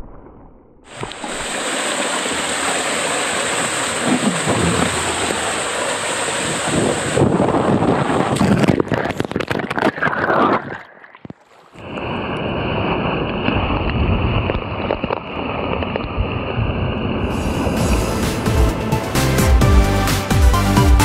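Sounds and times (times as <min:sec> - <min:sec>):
water gushing into a pool: 0:00.9 - 0:18.3
water rushing through a slide: 0:00.9 - 0:18.8.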